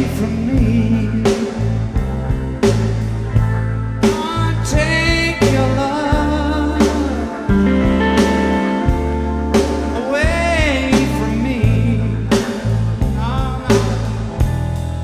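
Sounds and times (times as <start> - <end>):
song with singer and beat: 0.0 - 14.7.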